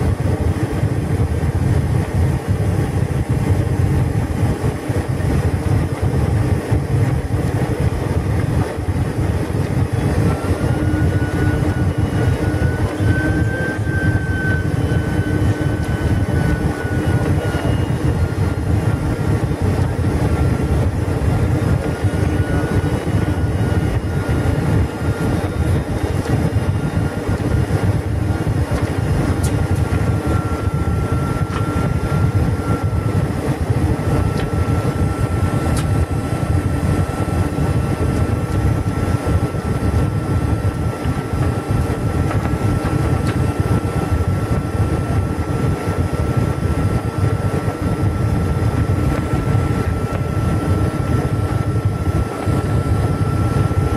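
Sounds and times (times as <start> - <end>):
airplane cabin roar: 0.0 - 53.9
thin steady whine: 0.0 - 53.9.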